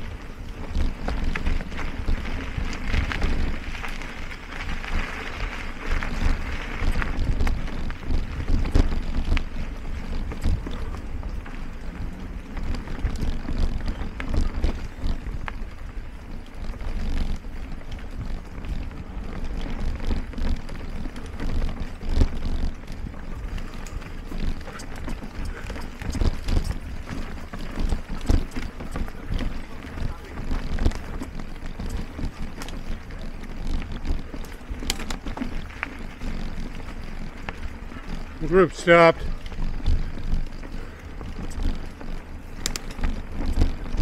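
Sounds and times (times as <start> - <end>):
bike rattling over bumps: 0.0 - 44.0
tyre rumble: 0.0 - 44.0.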